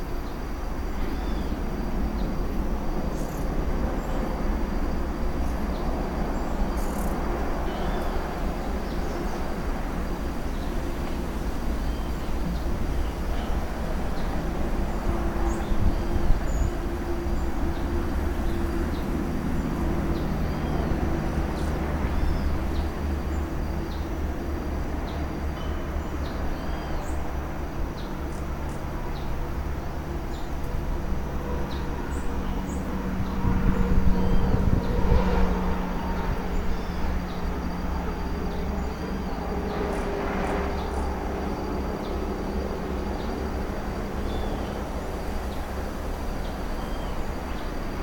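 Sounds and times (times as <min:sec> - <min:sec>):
constant low rumble: 0:00.0 - 0:48.0.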